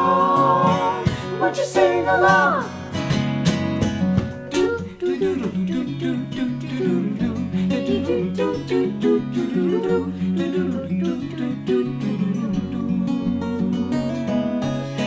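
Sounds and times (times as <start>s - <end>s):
group singing a folk song: 0.0s - 3.1s, 4.6s - 13.9s
acoustic guitar strumming: 0.0s - 15.0s.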